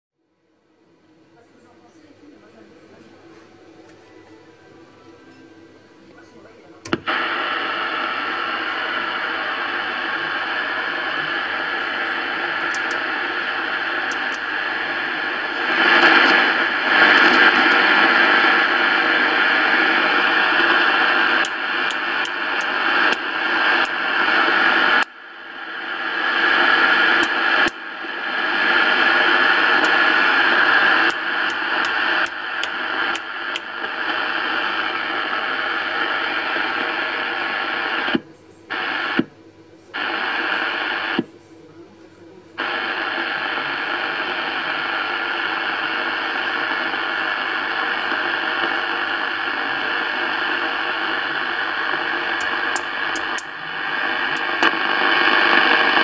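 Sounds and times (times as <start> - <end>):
radio static: 6.4 - 56.0.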